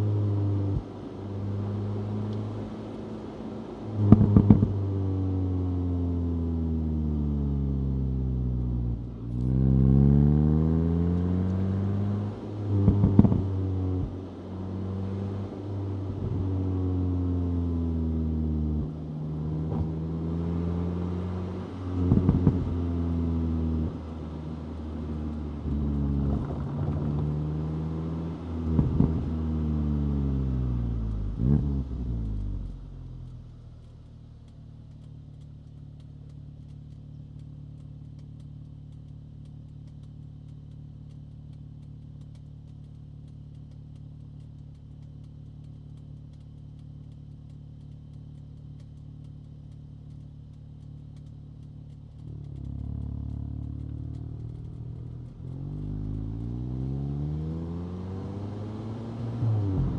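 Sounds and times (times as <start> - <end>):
car engine revving: 0.0 - 59.9
exhaust crackles and pops: 0.0 - 59.9.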